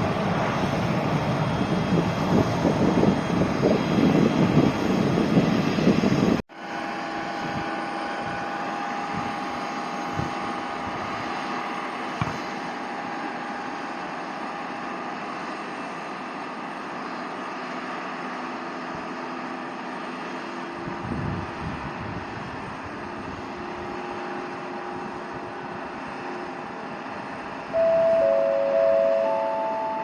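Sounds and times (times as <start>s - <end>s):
distant jet engines running: 0.0s - 30.0s.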